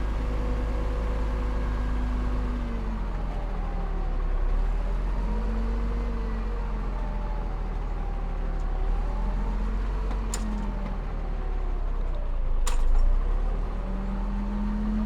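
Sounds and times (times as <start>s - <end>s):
diesel machinery running: 0.0s - 15.0s.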